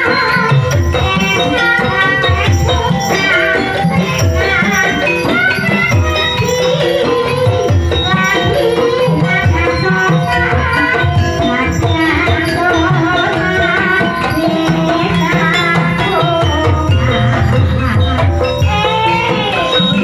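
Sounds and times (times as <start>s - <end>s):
hand drums beating: 0.0s - 20.0s
pitched melody: 0.0s - 20.0s.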